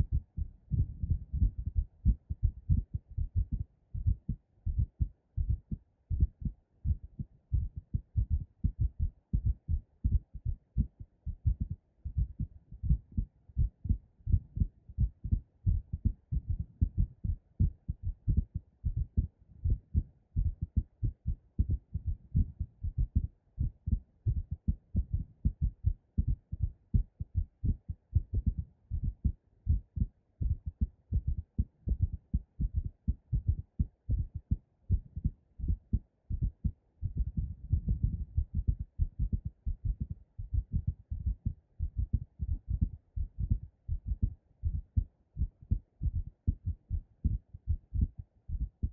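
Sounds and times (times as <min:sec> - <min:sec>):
heartbeat thuds: 0:00.0 - 0:48.9.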